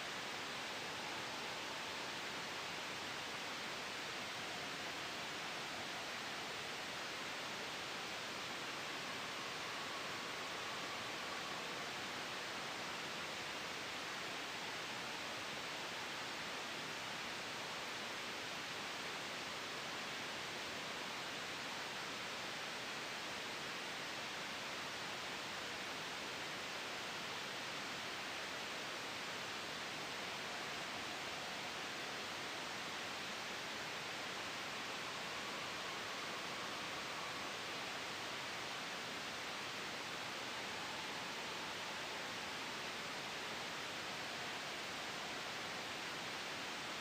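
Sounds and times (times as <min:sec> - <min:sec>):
gentle wind: 0:00.0 - 0:47.0
soft white noise: 0:00.0 - 0:47.0.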